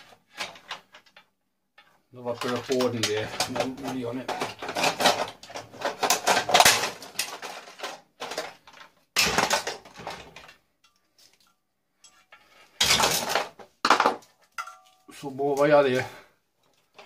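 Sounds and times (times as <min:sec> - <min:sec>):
scrap parts clattering: 0:00.0 - 0:17.0.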